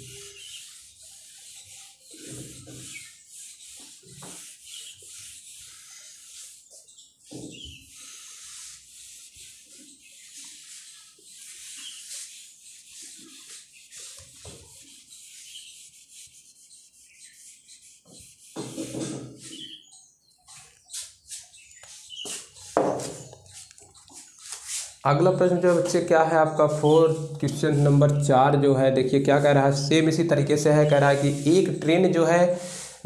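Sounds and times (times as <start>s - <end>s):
duster wiping whiteboard: 0.0s - 33.0s.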